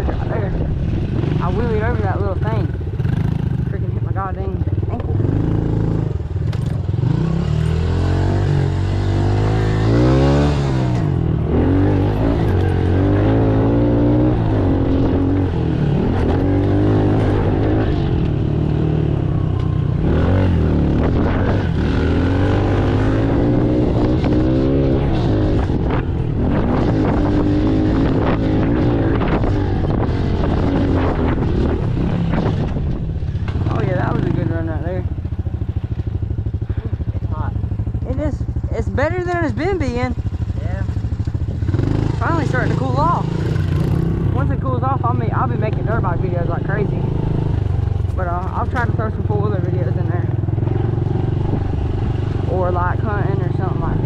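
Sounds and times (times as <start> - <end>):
pit bike engine revving: 0.0 - 54.0
wind buffeting microphone: 0.0 - 54.0.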